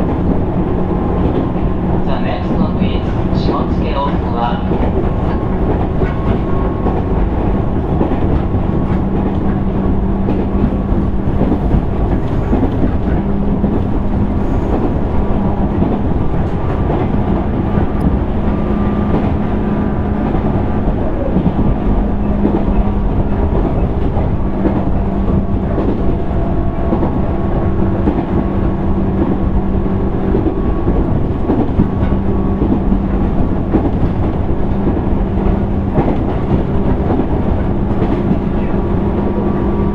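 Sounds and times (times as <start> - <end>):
low train motor hum: 0.0 - 39.9
train wheels rumbling on rail: 0.0 - 39.9.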